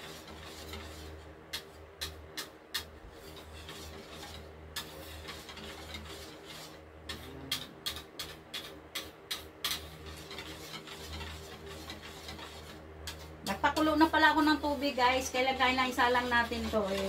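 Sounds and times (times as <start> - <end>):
steady low hum: 0.0 - 17.0
whisk clicking against bowl: 0.0 - 17.0.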